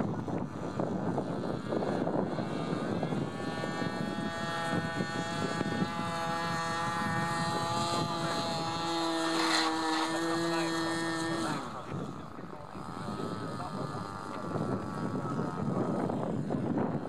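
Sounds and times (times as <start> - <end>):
model plane motor whining: 0.0 - 17.0
wind noise on microphone: 0.0 - 17.0.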